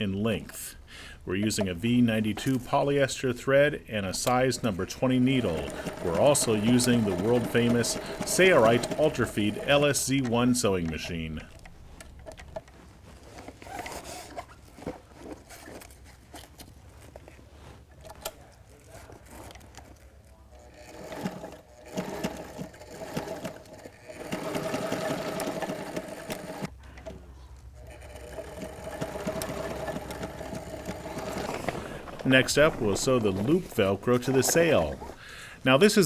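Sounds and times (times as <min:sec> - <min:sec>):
sewing machine stitching: 0:01.4 - 0:12.7, 0:13.3 - 0:16.0, 0:18.0 - 0:27.2, 0:27.8 - 0:35.2.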